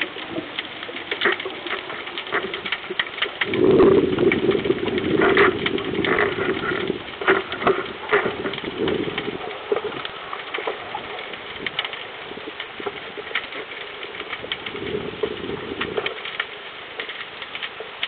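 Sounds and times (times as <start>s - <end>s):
low underwater rushing: 0.0s - 17.6s
sharp clicks and crackles: 0.0s - 18.0s.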